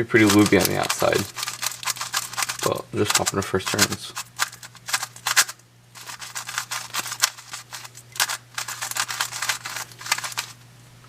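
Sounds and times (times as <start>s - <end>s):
puzzle cube plastic clacks: 0.2s - 10.6s.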